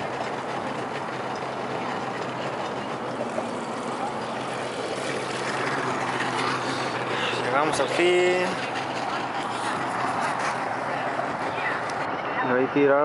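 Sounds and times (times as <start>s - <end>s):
engine running: 0.0s - 12.7s.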